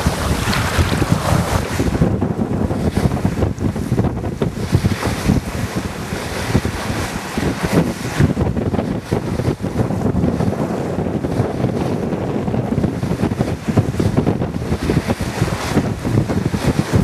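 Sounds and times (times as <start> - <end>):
strong wind buffeting microphone: 0.0 - 17.0
waves washing along boat: 0.0 - 17.0.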